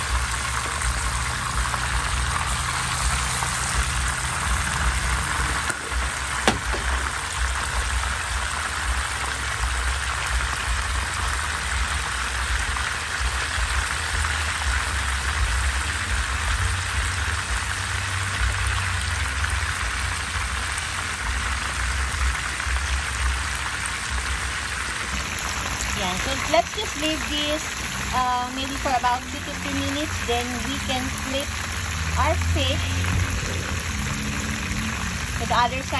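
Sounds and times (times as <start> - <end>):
fish sizzling in hot oil: 0.0 - 35.9.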